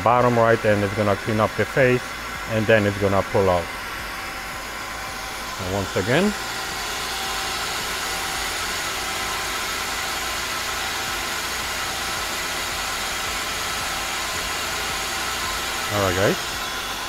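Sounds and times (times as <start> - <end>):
lathe machine humming: 0.0 - 17.0.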